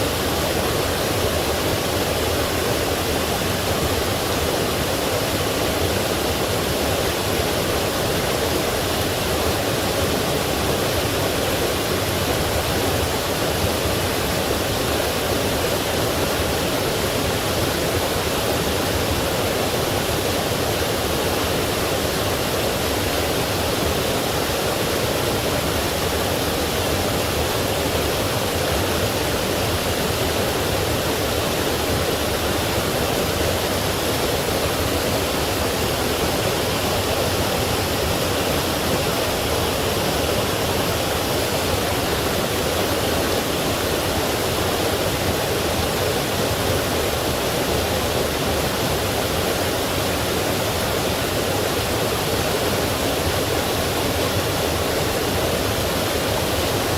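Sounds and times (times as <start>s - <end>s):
stream rushing over waterfalls: 0.0s - 56.9s.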